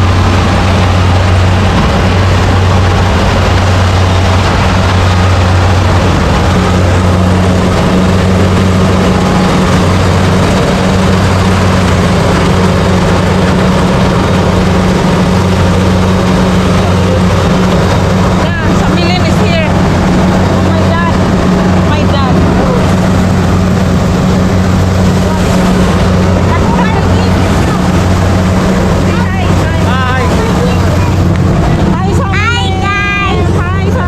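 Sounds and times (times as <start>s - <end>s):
harvester engine running: 0.0s - 34.0s.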